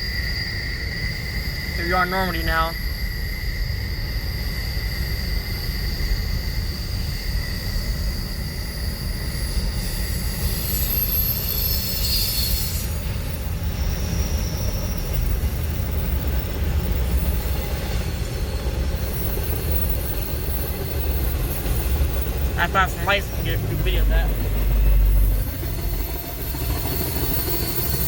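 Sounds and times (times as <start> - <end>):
low train rumble: 0.0 - 28.0
train wheel and brake squeal: 0.0 - 28.0.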